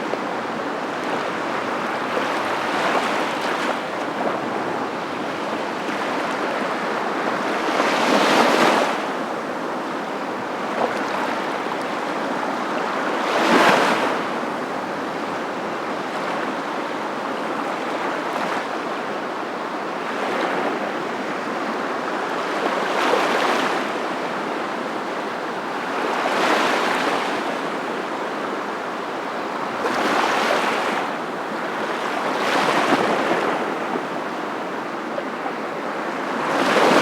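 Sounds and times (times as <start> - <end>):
waves washing ashore: 0.0 - 37.0.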